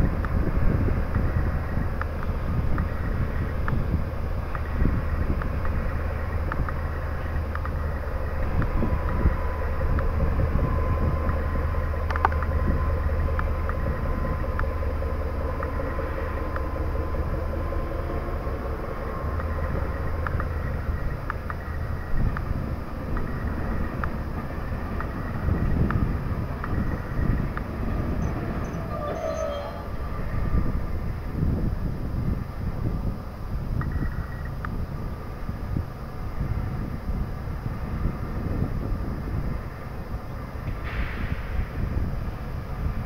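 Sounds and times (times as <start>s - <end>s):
locomotive engine drone: 0.0s - 43.0s
thin steady whine: 0.0s - 43.0s
wind buffeting microphone: 0.0s - 43.0s.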